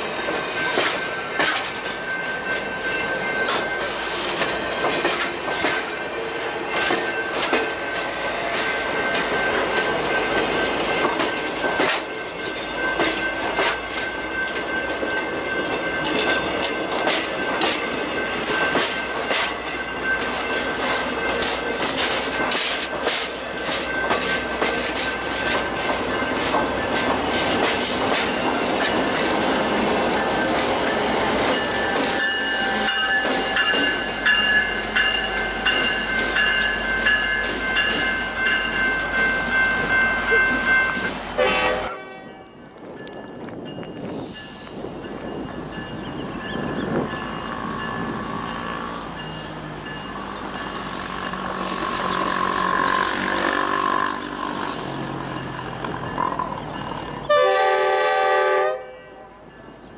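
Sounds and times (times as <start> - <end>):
wheels clicking over rail joints: 0.0 - 41.8, 42.7 - 57.3.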